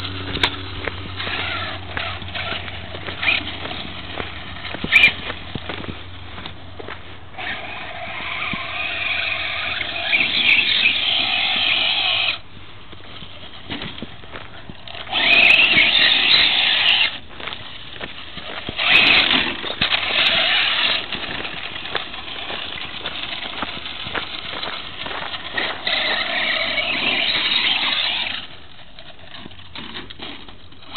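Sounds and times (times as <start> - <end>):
electric motor whining: 0.0 - 29.8
tyres on loose gravel: 0.0 - 30.9.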